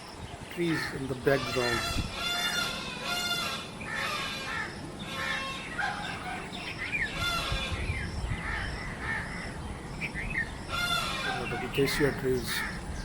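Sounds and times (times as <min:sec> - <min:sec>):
harsh caw-like bird calls: 0:00.6 - 0:13.0.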